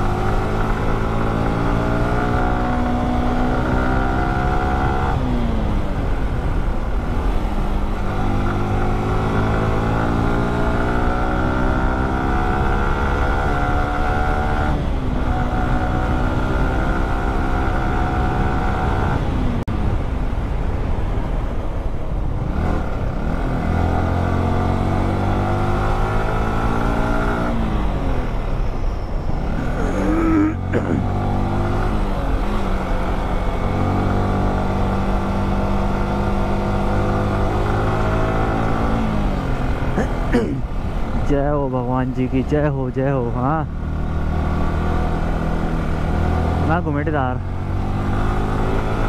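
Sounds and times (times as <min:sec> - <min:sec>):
motorcycle engine revving: 0:00.0 - 0:05.6, 0:07.2 - 0:19.4, 0:22.5 - 0:28.3, 0:29.3 - 0:49.0.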